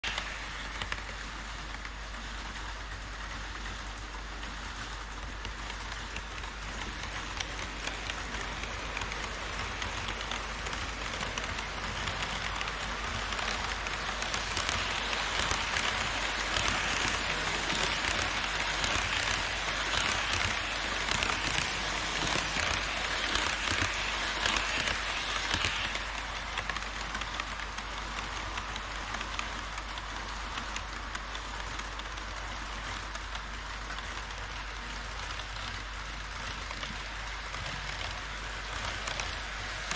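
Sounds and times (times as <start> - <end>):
model train wheels rattling on track: 0.0 - 39.9.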